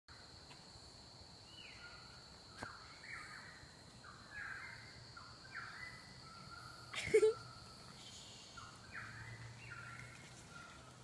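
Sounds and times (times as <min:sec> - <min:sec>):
bird calls: 0:01.5 - 0:11.0.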